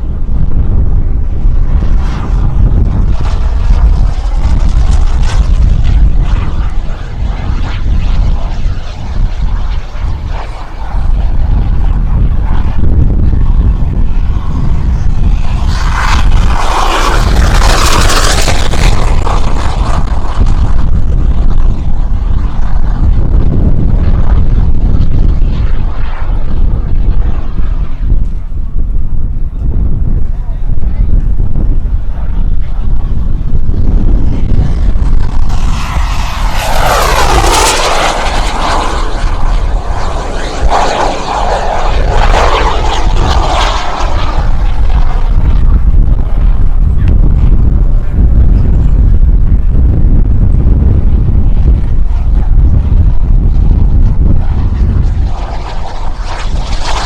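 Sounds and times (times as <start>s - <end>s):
jet whooshing past: 0.0s - 28.8s, 32.0s - 57.0s
wind buffeting microphone: 0.0s - 57.0s.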